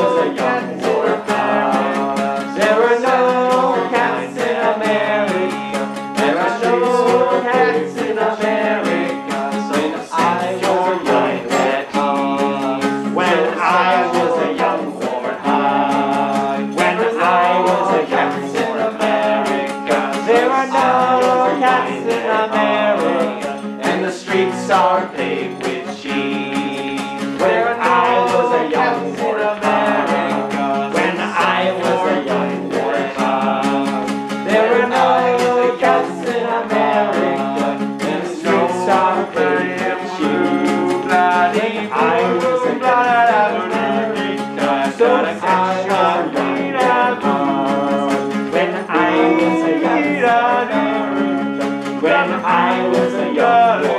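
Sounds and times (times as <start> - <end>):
acoustic guitar strumming: 0.0 - 53.9
person singing: 0.0 - 53.9.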